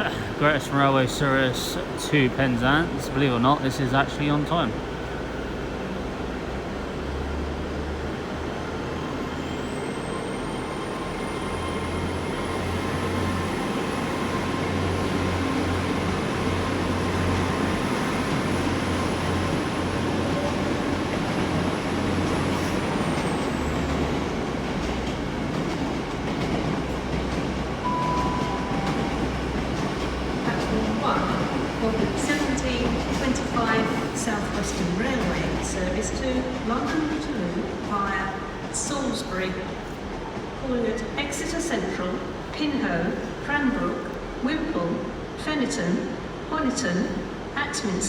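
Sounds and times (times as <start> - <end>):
train engine rumble: 0.0 - 45.4
high train whine: 0.0 - 48.0.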